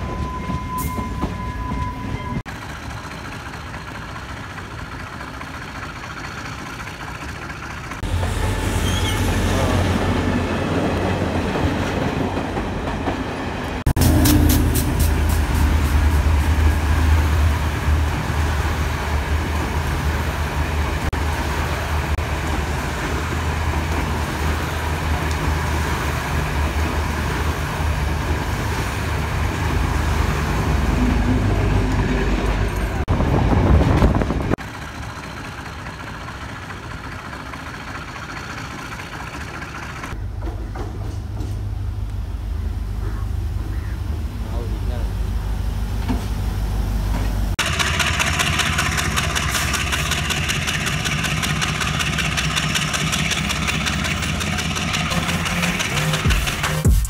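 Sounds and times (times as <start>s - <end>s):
train carriages rumbling on rails: 0.0s - 42.0s, 45.9s - 57.0s
diesel locomotive engine hum: 0.0s - 57.0s.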